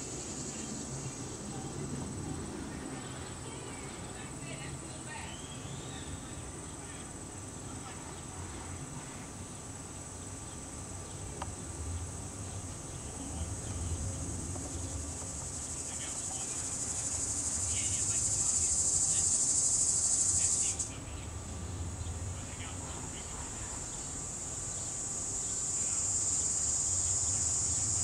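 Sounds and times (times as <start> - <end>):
insects singing high-pitched drone: 0.0 - 28.0.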